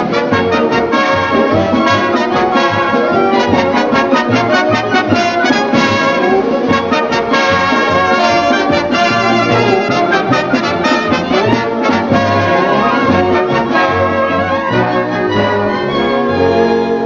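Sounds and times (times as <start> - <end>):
brass-led orchestral music: 0.0 - 17.0.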